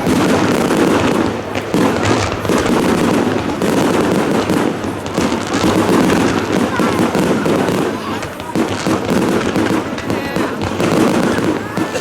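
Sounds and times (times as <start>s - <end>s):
fireworks bangs and crackles: 0.0s - 12.0s
sharp loud firework burst: 0.0s - 12.0s.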